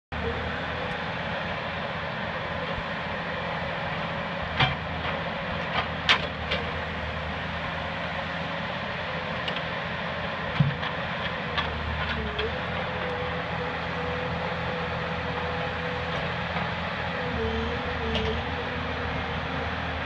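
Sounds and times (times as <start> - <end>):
diesel engine running: 0.1 - 20.0.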